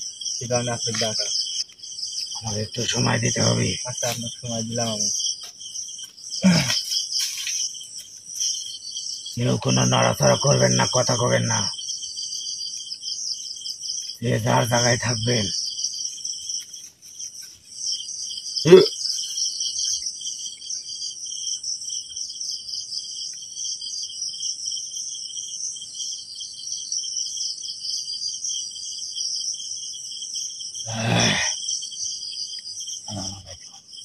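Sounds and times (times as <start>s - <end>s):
crickets and night insects chirring: 0.0s - 34.0s.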